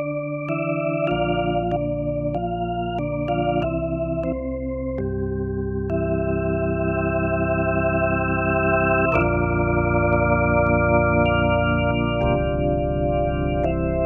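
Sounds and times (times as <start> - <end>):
organ playing held chords: 0.0 - 14.0.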